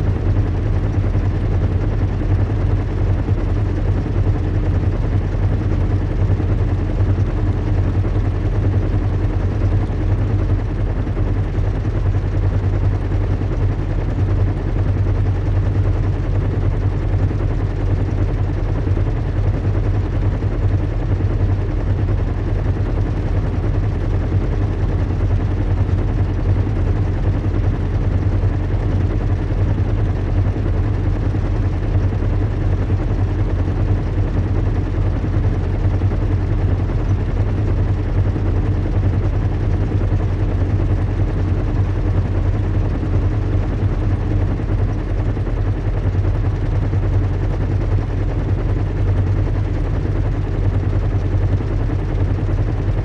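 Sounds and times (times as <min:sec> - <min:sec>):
deep engine rumble: 0:00.0 - 0:53.0.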